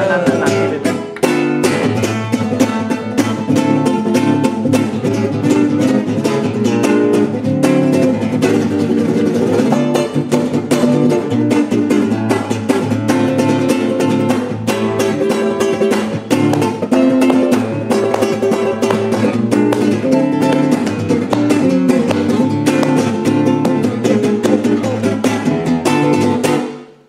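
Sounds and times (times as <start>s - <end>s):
fast acoustic guitar strumming: 0.0s - 27.0s.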